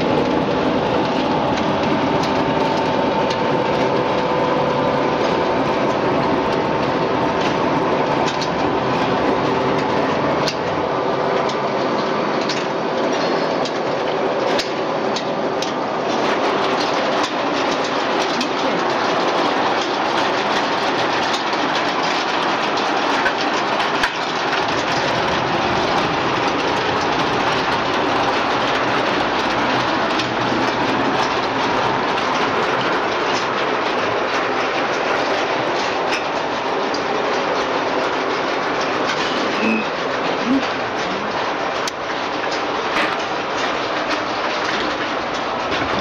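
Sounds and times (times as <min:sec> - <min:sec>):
production line machinery rattling: 0:00.0 - 0:46.0.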